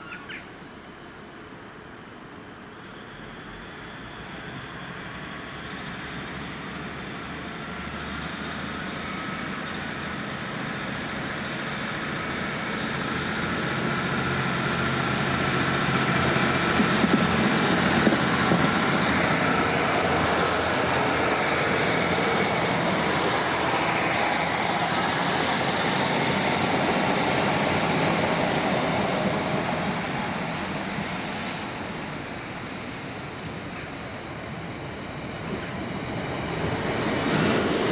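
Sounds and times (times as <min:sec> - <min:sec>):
diesel train passing: 0:00.0 - 0:37.9.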